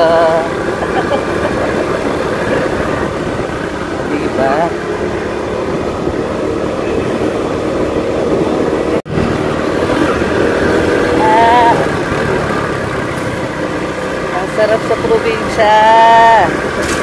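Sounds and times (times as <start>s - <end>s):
wind rushing over microphone: 0.0s - 14.4s
motorcycle engine running: 0.0s - 17.0s.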